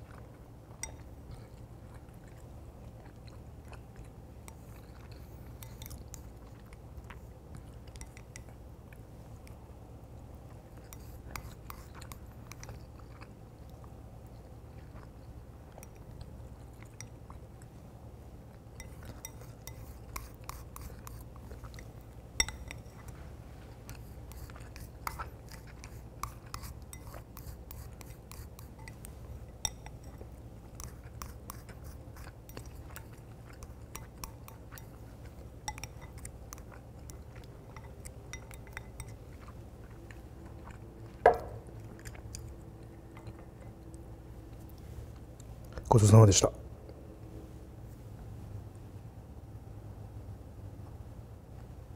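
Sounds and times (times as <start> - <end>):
chewing rice: 0.0 - 45.9.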